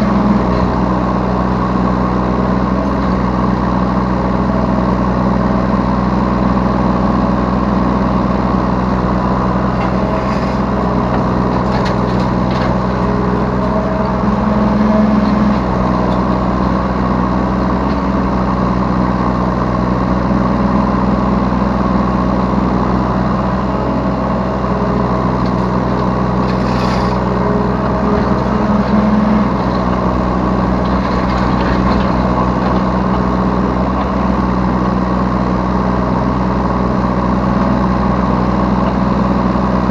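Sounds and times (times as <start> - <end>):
diesel engine running: 0.0 - 39.9
excavator working noises: 0.0 - 39.9.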